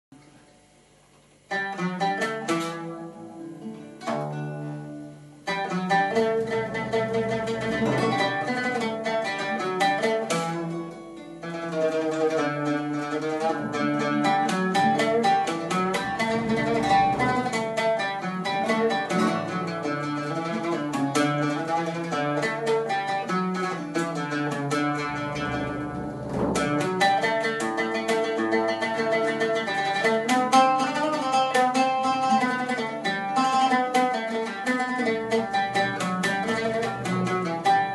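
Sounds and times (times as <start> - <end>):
acoustic guitar playing: 0.2 - 37.9
oud playing: 0.2 - 37.9.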